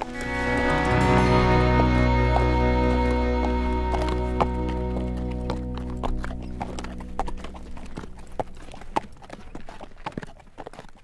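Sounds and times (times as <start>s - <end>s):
horse hooves clip-clopping on dirt: 0.0s - 11.0s.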